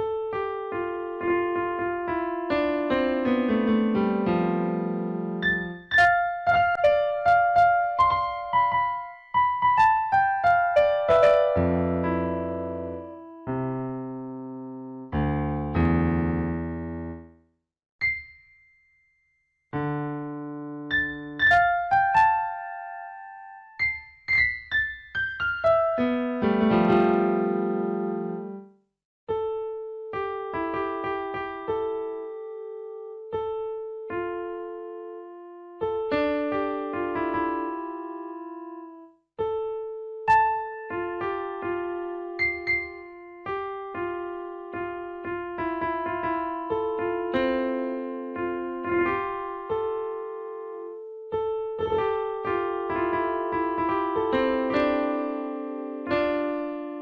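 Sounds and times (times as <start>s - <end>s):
gentle piano music: 0.0s - 18.9s, 19.7s - 57.0s.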